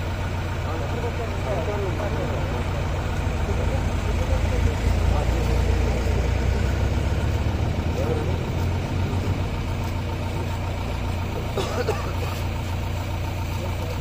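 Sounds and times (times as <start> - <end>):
engine idling: 0.0 - 14.0
faint voices talking: 0.0 - 14.0.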